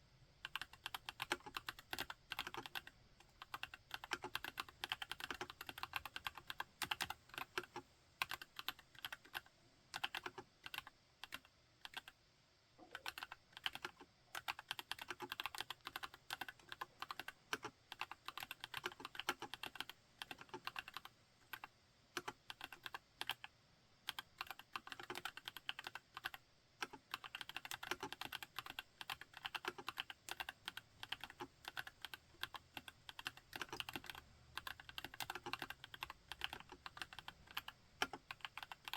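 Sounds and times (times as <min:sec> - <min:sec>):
mechanical keyboard typing: 0:00.4 - 0:12.2, 0:12.9 - 0:23.5, 0:24.1 - 0:38.9.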